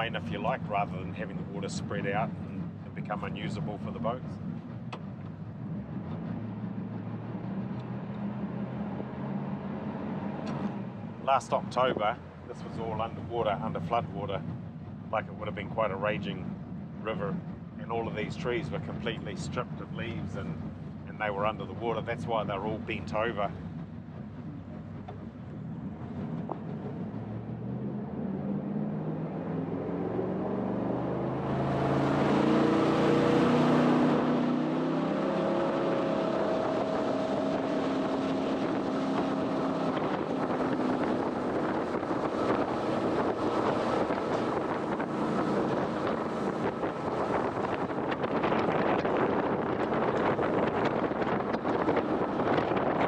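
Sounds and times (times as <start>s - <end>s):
boat engine revving: 0.0s - 53.0s
rush of wind and water: 0.0s - 53.0s.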